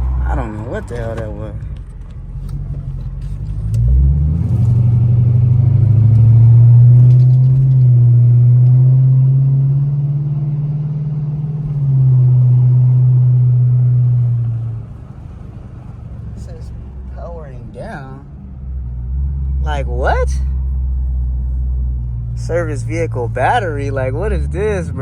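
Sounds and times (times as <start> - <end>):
car engine drone under throttle: 0.0 - 25.0.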